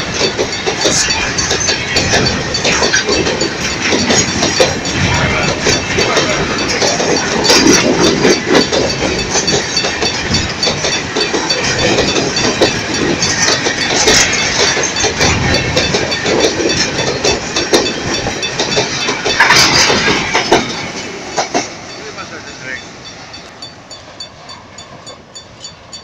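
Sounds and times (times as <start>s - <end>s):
wheel clicks and knocks: 0.0s - 21.7s
steel wheels on rail: 0.0s - 26.0s.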